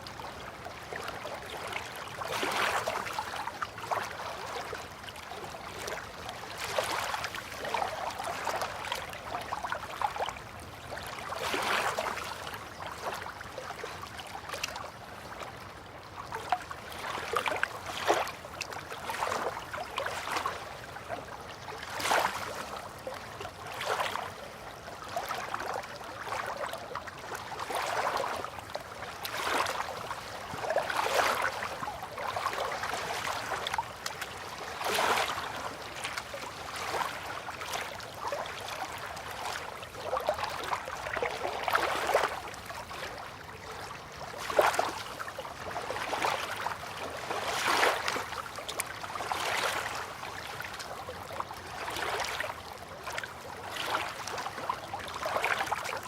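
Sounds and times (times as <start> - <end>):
river water lapping at bank: 0.0 - 56.0.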